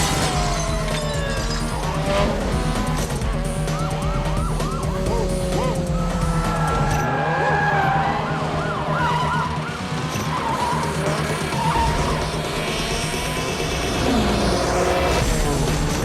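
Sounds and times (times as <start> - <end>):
police sirens wailing: 0.0 - 16.0.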